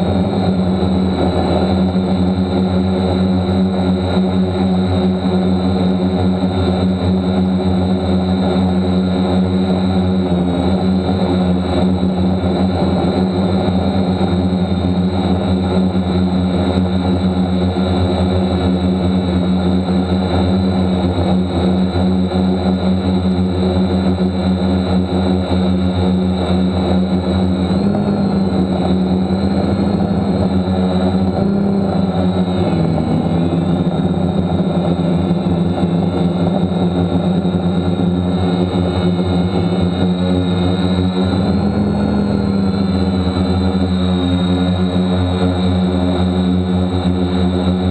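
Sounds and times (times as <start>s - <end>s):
drone motors and propellers: 0.0s - 47.9s.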